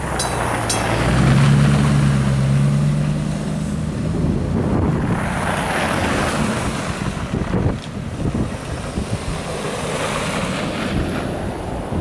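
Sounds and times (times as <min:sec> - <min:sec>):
truck engine hum passing: 0:00.0 - 0:12.0
tyres rushing on slushy road: 0:00.0 - 0:12.0.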